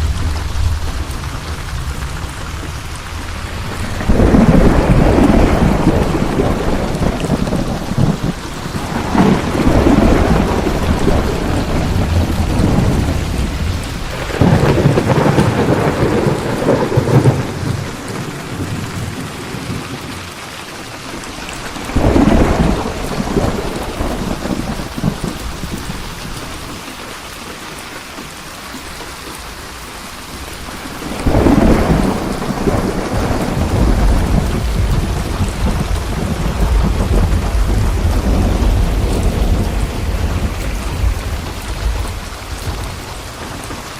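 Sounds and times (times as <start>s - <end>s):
rolling thunder: 0.0s - 20.3s, 21.6s - 26.6s, 30.7s - 43.9s
steady rain falling: 0.0s - 43.9s.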